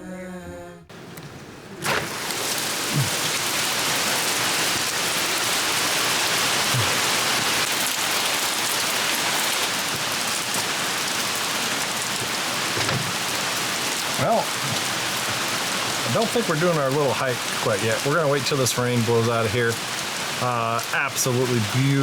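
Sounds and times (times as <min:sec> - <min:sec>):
steady rain falling: 0:00.9 - 0:22.0.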